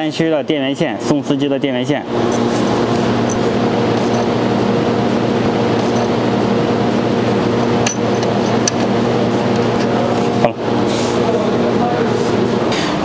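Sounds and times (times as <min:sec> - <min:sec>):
machine humming: 0:02.0 - 0:13.0.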